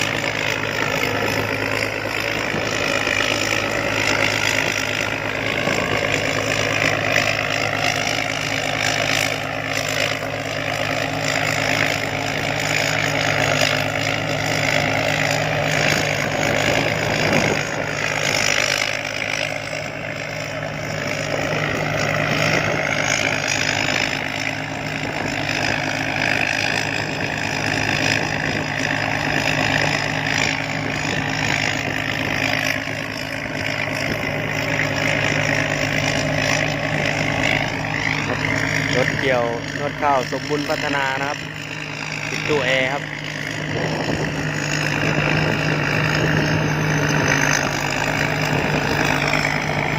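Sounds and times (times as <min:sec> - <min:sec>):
combine harvester engine idling: 0:00.0 - 0:49.9.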